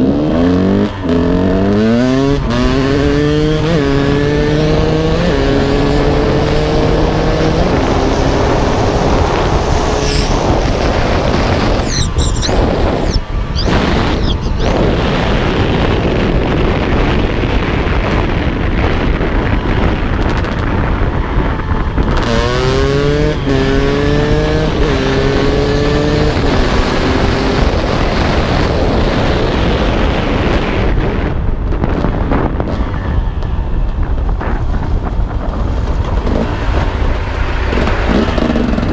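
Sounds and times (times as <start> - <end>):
motorcycle engine revving: 0.0 - 31.2, 31.8 - 38.9
wind noise on microphone: 0.0 - 38.9.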